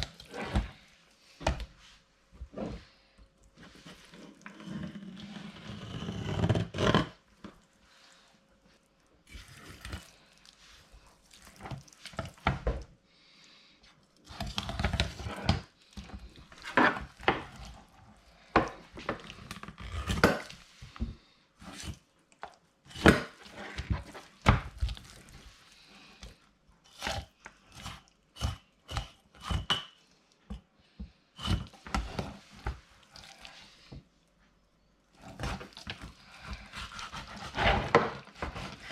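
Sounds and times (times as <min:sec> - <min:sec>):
knife cutting and scraping fish: 0:00.0 - 0:01.6, 0:03.6 - 0:12.8, 0:14.0 - 0:21.0, 0:21.6 - 0:29.9, 0:31.4 - 0:34.0, 0:35.1 - 0:38.9.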